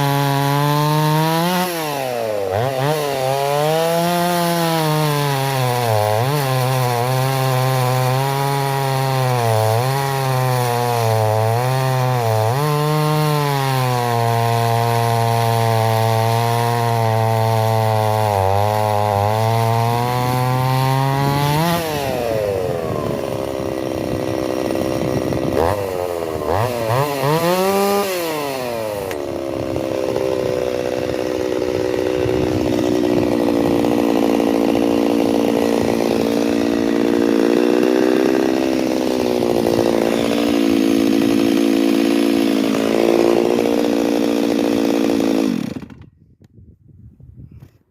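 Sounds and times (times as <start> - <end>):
chainsaw cutting wood: 0.0 - 46.3.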